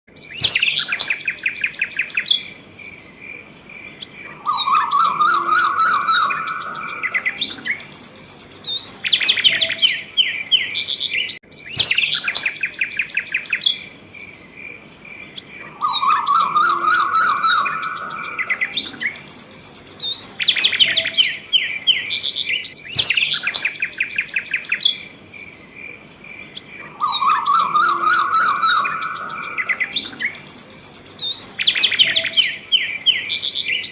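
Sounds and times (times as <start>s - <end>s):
birds singing and chirping: 0.1s - 33.9s
fast pulsing chirp: 0.2s - 33.9s.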